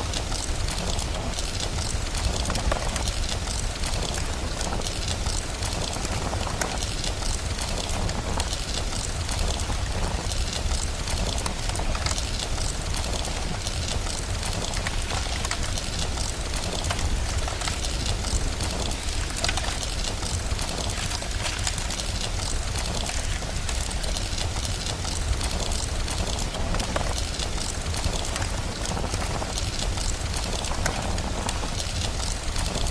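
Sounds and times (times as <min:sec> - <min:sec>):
fire crackling: 0:00.0 - 0:32.9
steady rain hiss: 0:00.0 - 0:32.9.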